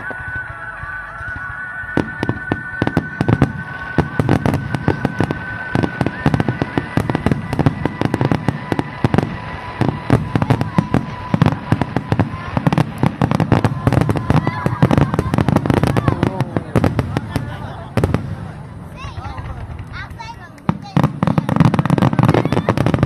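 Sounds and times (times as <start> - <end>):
fireworks bursting with sharp bangs: 0.0 - 23.0.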